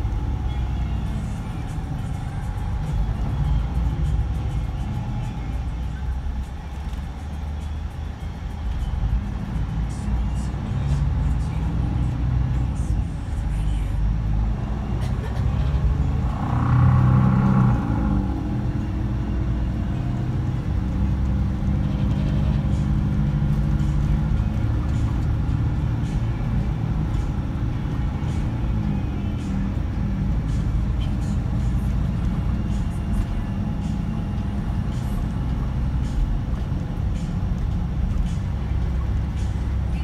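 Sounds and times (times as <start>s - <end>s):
diesel engine running: 0.0s - 40.0s
light interior rattles: 0.0s - 40.0s
road noise: 0.0s - 40.0s.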